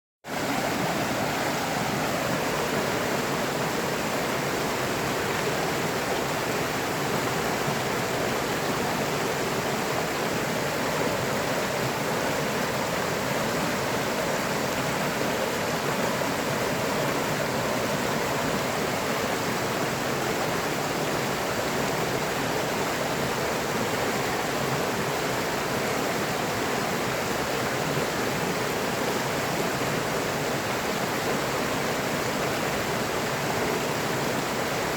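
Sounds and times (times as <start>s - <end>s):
stream rushing over rocks: 0.3s - 34.9s.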